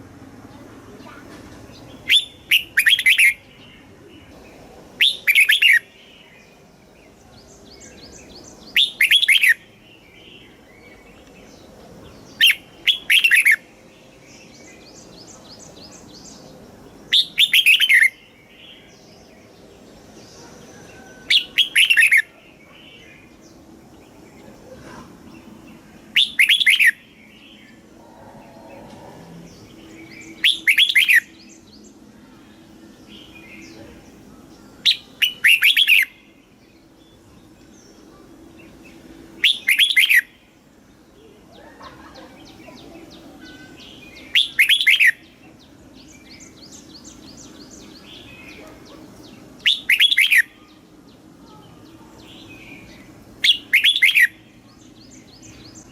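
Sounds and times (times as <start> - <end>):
bird singing sweeping phrases: 0.0 - 55.9
faint chirping: 0.0 - 55.9.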